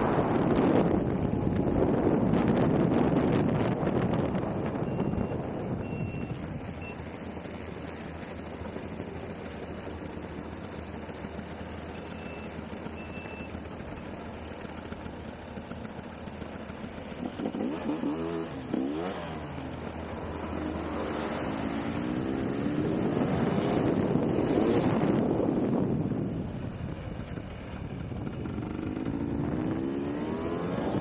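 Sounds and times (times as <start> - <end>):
dirt bike engine revving: 4.3 - 25.8, 27.3 - 31.0.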